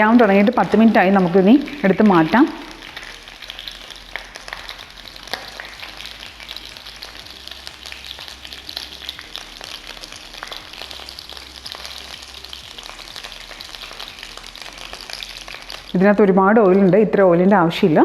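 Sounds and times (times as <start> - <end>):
chicken frying in hot oil: 0.0 - 18.0
oil crackling and popping: 0.0 - 18.0.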